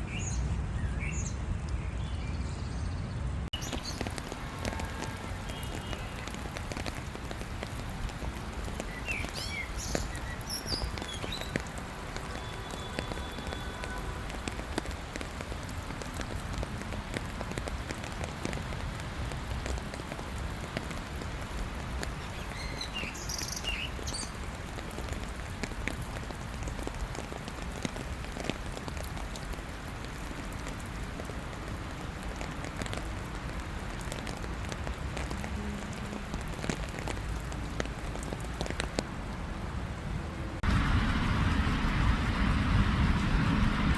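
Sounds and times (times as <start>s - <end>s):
rain on hard surfaces: 3.5s - 43.9s.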